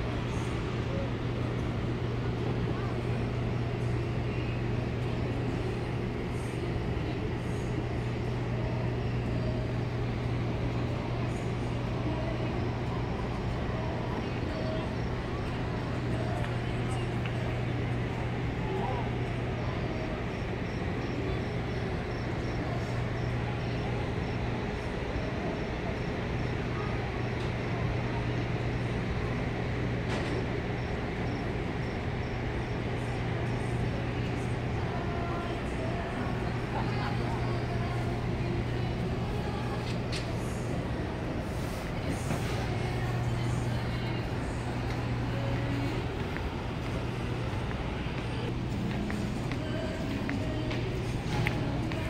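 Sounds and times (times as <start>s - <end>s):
ship machinery drone: 0.0s - 52.0s.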